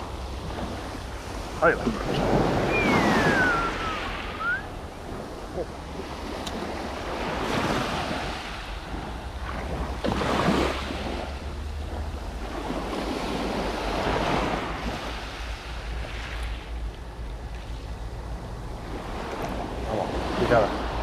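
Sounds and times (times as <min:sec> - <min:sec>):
sea waves washing ashore: 0:00.0 - 0:21.0
wind noise on microphone: 0:00.0 - 0:21.0.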